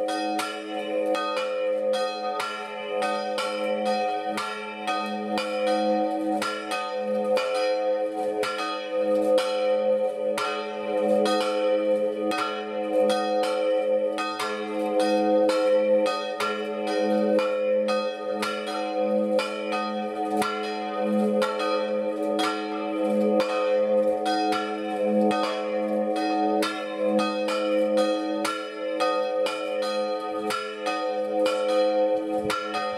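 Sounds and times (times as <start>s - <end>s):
church bells ringing: 0.0s - 32.9s.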